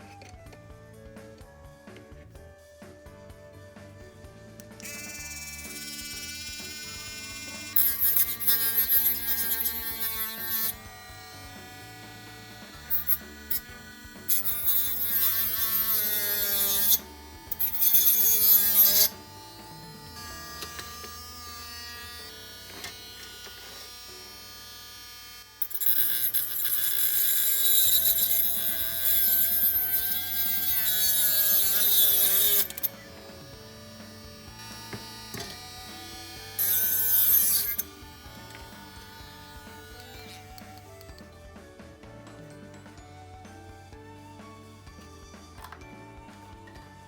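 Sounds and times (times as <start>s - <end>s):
background music: 0.0s - 47.0s
power tool whining: 0.0s - 47.0s
small electric motor whirring: 3.7s - 41.8s.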